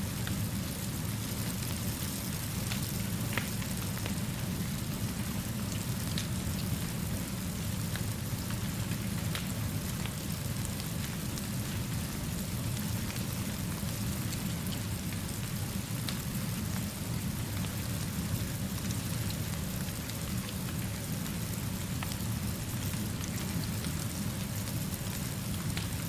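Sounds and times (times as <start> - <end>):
steady rainfall: 0.0 - 26.0
wood fire crackling: 0.1 - 26.0.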